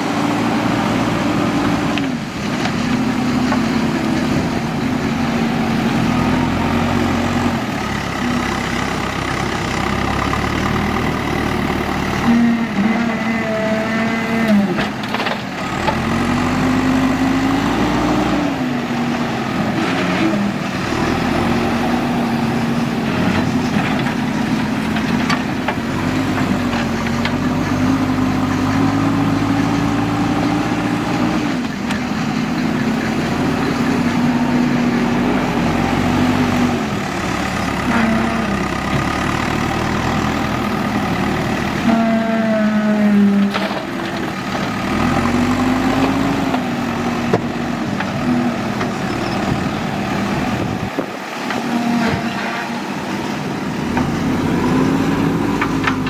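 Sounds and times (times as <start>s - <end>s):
backhoe diesel engine working: 0.0s - 56.0s.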